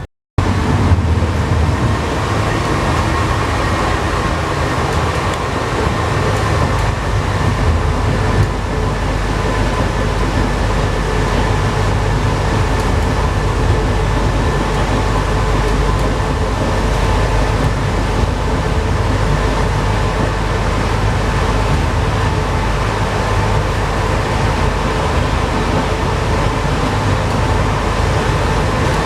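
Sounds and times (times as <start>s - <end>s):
metro train rumble: 0.0s - 29.0s.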